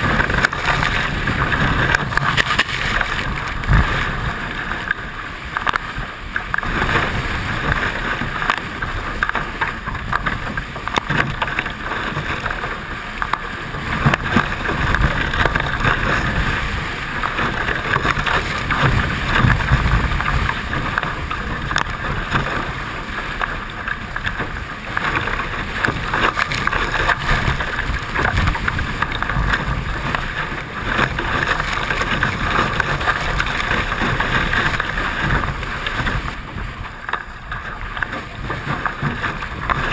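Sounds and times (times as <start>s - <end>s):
water rushing: 0.0s - 39.9s
wind buffeting microphone: 0.0s - 39.9s.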